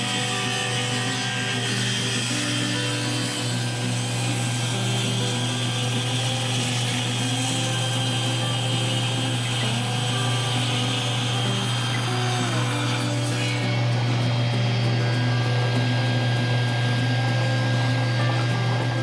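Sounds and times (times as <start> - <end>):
table saw cutting board: 0.0 - 19.0.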